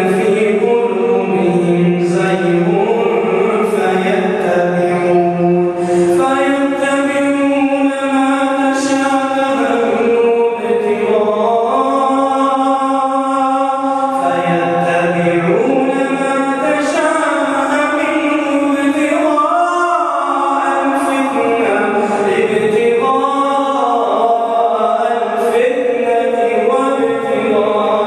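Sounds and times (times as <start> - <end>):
man chanting melodically: 0.0 - 28.0.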